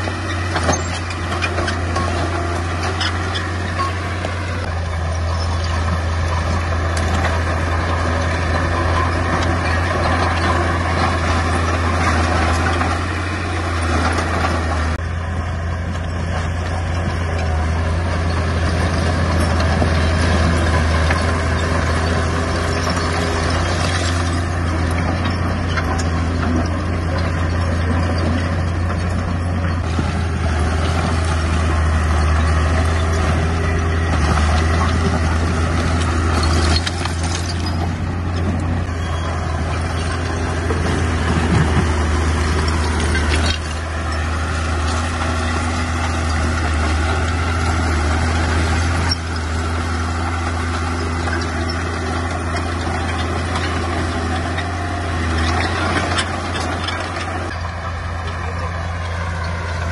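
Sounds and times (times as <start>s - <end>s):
clatter and grinding: 0.0s - 59.9s
heavy diesel engine droning: 0.0s - 59.9s.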